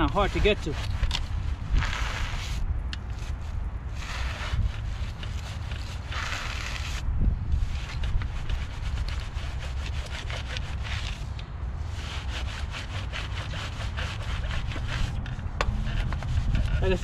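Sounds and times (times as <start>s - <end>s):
brush scrubbing a wheel: 0.0s - 17.0s.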